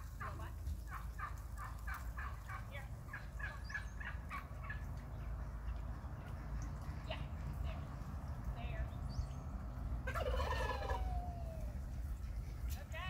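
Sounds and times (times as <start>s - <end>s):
turkeys calling: 0.0s - 13.0s.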